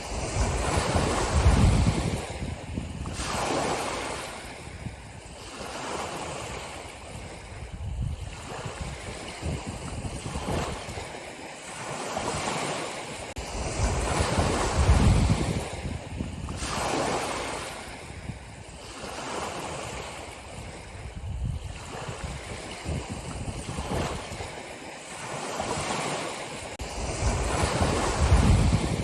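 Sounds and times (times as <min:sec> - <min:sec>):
ocean waves washing in: 0:00.0 - 0:29.0
waves breaking with low rumble: 0:00.0 - 0:29.0.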